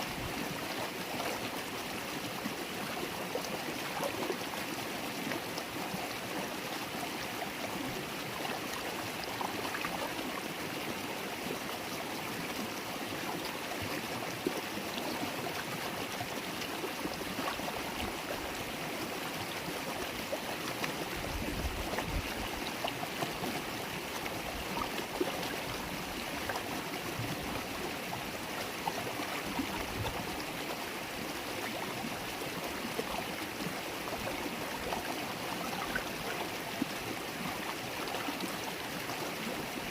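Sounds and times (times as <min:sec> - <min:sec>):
river water burbling over stones: 0:00.0 - 0:39.9.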